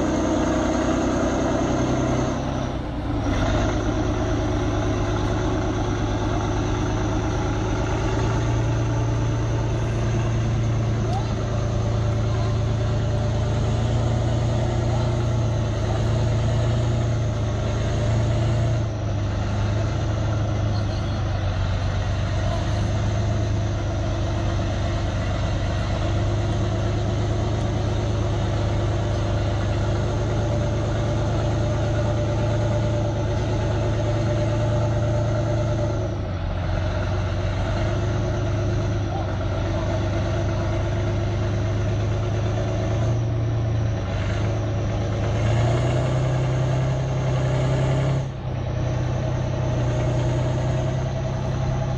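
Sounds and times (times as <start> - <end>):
tracked vehicle engine running: 0.0 - 51.9.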